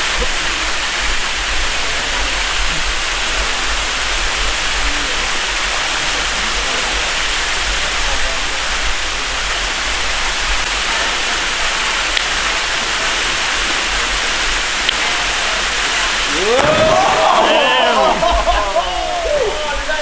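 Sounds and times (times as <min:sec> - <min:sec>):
waterfall pouring: 0:00.0 - 0:20.0.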